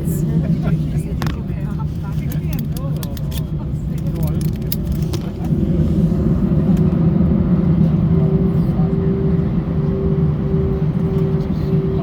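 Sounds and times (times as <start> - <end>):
low aircraft cabin hum: 0.0 - 12.0.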